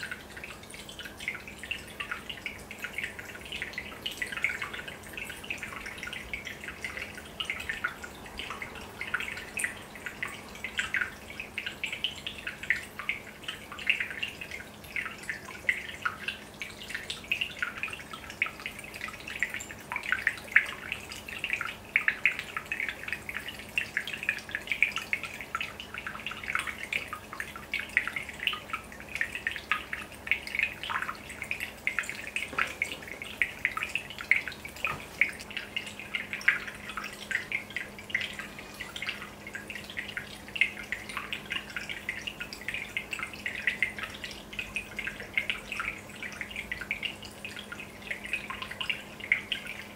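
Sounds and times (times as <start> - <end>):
aquarium bubbles popping: 0.0 - 49.9.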